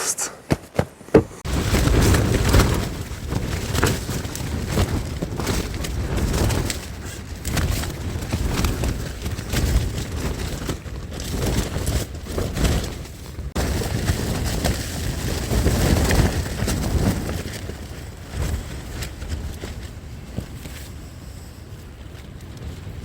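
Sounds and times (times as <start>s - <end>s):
gusting wind buffeting microphone: 1.2s - 23.0s.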